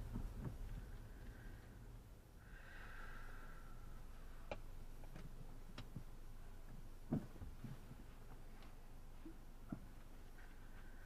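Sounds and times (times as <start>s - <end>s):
car engine and tyre rumble: 0.0s - 11.0s
faint whine: 0.0s - 11.0s.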